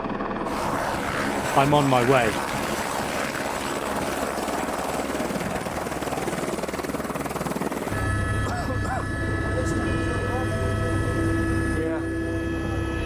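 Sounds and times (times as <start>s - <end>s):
helicopter rotor chopping: 0.2s - 13.0s.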